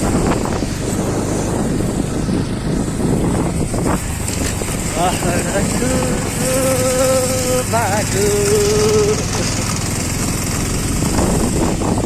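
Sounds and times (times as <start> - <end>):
motorcycle engine: 0.0 - 12.0
wind noise on microphone: 0.0 - 12.0.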